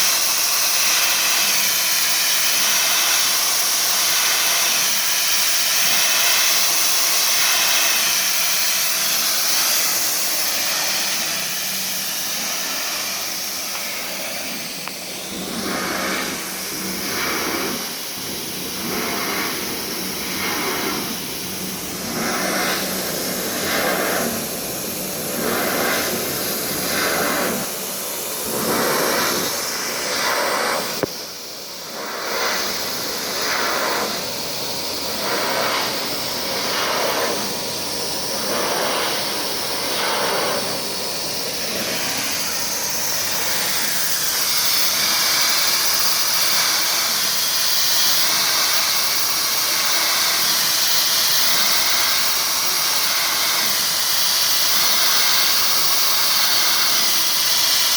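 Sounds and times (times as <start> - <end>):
machine cutting aluminium: 0.0 - 57.9
steady high hiss: 0.0 - 57.9.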